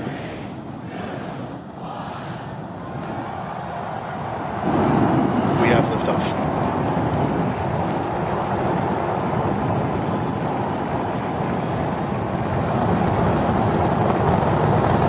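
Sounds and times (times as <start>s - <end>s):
rocket engines deep rumble: 0.0s - 15.0s.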